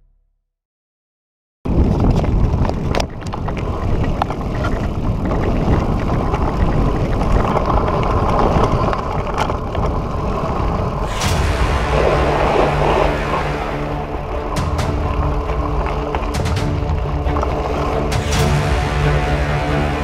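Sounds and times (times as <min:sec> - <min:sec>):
bike rolling rumble: 0:01.7 - 0:20.0
wind: 0:01.7 - 0:20.0.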